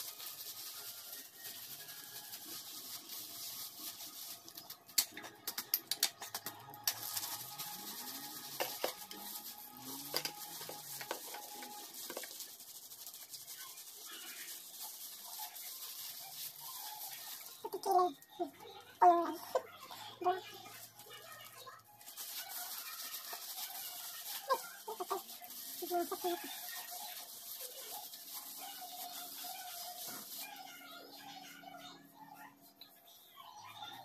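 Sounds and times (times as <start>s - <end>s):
hands squishing dye through wet hair: 0.0s - 31.4s.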